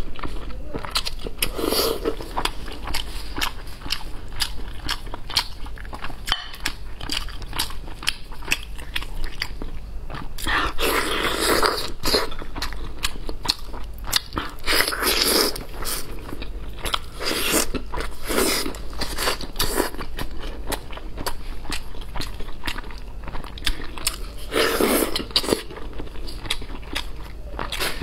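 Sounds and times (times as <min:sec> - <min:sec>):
chewing and biting meat: 0:00.0 - 0:28.0.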